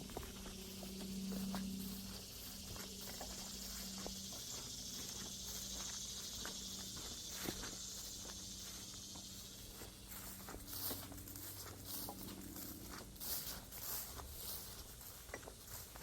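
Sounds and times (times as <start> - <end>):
faint low hum: 0.0 - 15.8
footsteps on a trail: 0.0 - 16.0
insects trilling: 0.0 - 16.0.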